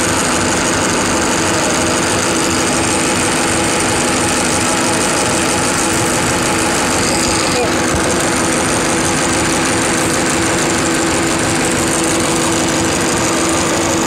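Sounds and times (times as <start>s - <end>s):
metal lathe whirring: 0.0s - 14.0s.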